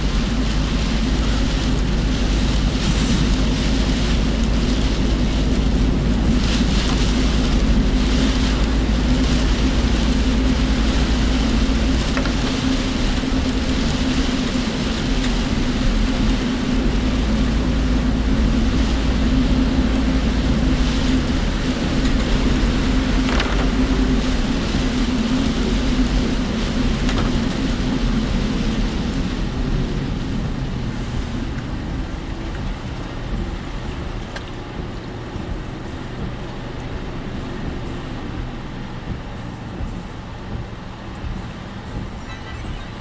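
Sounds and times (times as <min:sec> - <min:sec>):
car engine rumble: 0:00.0 - 0:43.0
tyre road noise: 0:00.0 - 0:43.0.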